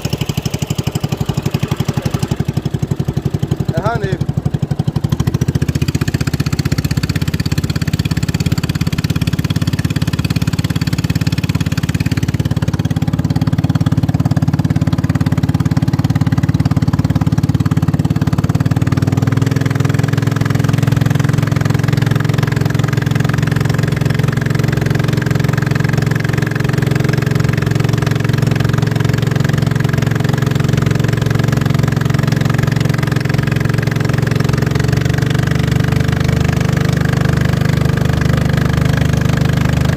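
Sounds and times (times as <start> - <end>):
racing boat engine running: 0.0 - 39.9.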